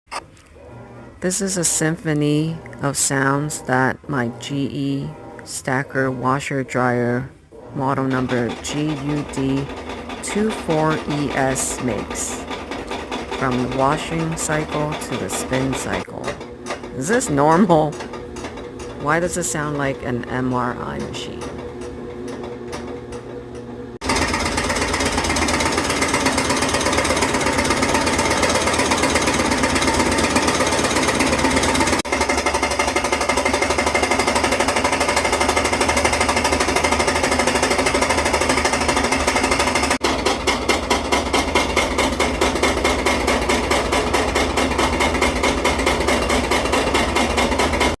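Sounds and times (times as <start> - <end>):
washer mechanical pulsing: 0.1 - 48.0.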